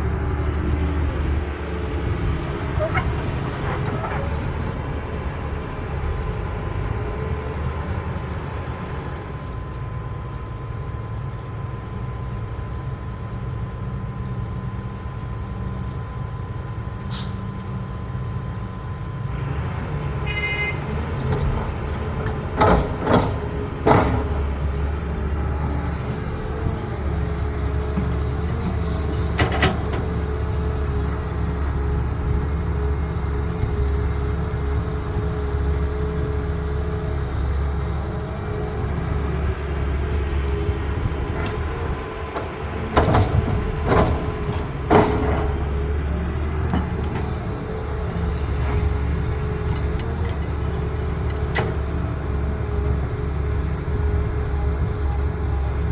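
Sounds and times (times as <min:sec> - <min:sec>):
excavator diesel engine rumbling: 0:00.0 - 0:55.9.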